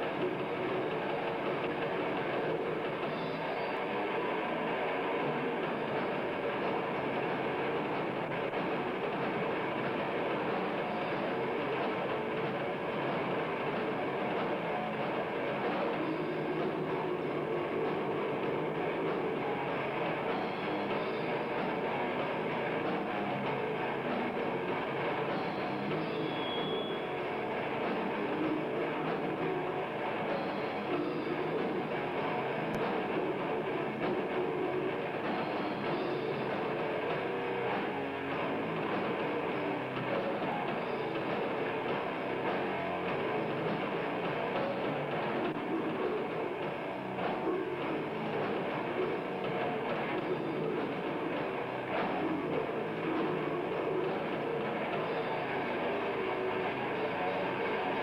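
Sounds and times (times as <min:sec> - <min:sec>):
death metal band playing live: 0:00.0 - 0:58.0
distorted electric guitar: 0:00.0 - 0:58.0
drum kit: 0:00.0 - 0:58.0.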